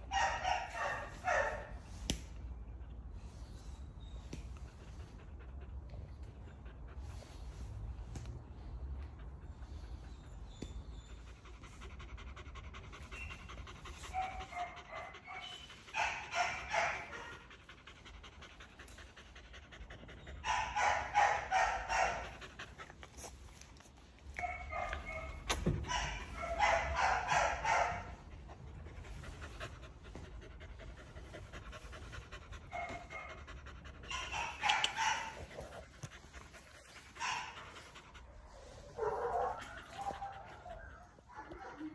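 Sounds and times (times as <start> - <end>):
dog panting: 2.6 - 41.9.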